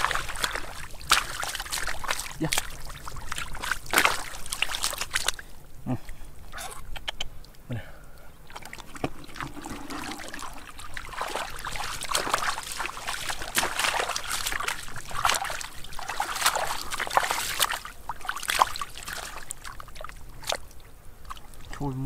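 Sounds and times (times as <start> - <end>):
hands splashing in muddy water: 0.0 - 5.5, 8.5 - 21.9.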